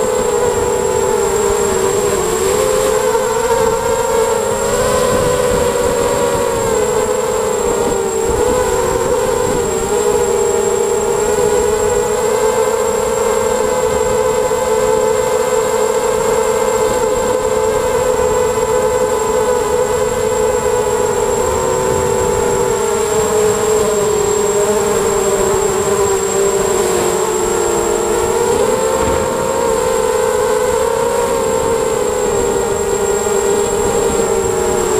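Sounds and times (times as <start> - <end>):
quadcopter motors whining: 0.0 - 34.9.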